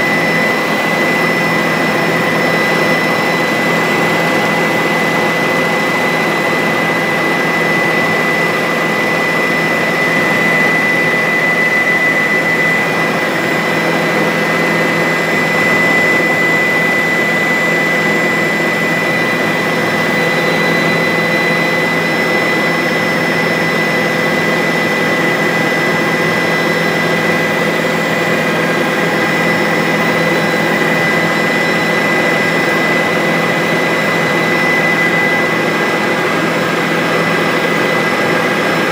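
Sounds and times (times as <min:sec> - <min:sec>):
helicopter engine and rotors: 0:00.0 - 0:38.9
high whine: 0:00.0 - 0:38.9.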